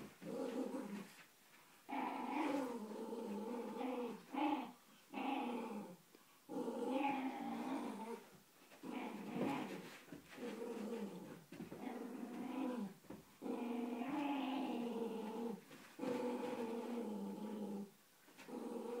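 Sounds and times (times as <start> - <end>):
dogs growling in play: 0.0 - 1.2, 1.8 - 19.0.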